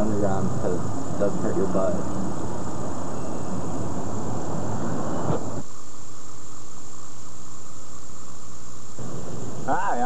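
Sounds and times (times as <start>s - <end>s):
electrical buzzing hum: 0.0s - 10.0s
rumbling background noise: 0.0s - 10.0s
thin high whine: 0.0s - 10.0s
videotape hiss: 0.0s - 10.0s.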